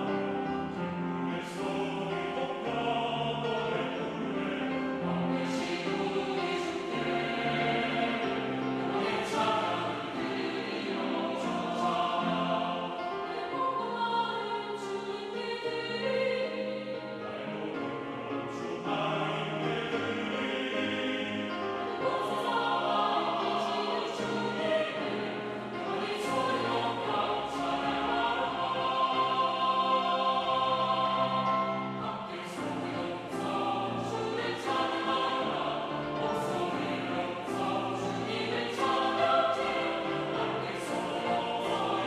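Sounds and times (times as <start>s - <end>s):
mixed choir singing: 0.0s - 42.0s.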